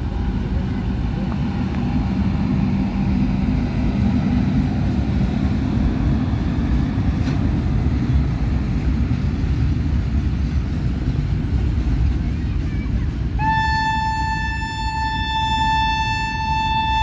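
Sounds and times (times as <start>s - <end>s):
freight train rolling past: 0.0s - 17.0s
low hum: 0.0s - 17.0s.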